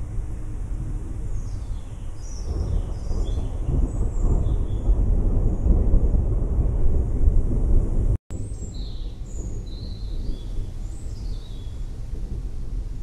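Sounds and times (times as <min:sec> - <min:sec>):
thunder rumbling: 0:00.0 - 0:13.0.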